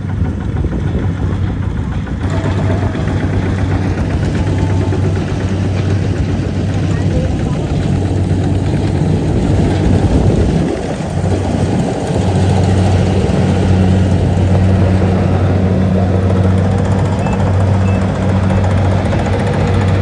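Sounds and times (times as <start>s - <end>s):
combine harvester engine and machinery: 0.0s - 20.0s.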